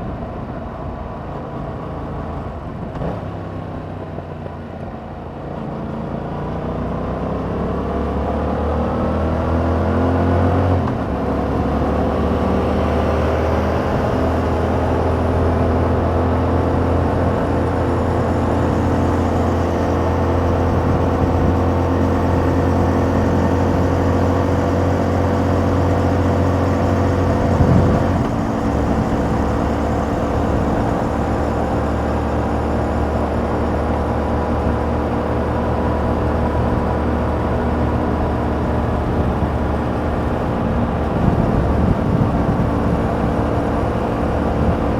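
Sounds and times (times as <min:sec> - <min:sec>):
motorcycle engine accelerating: 0:06.7 - 0:44.9.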